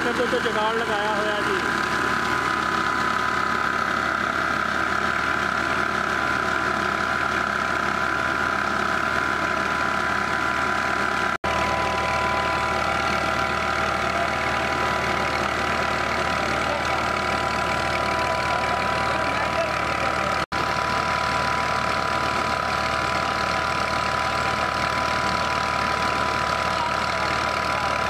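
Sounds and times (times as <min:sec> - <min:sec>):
diesel tractor engine running: 0:00.0 - 0:28.0
high hum from mill: 0:00.0 - 0:28.0.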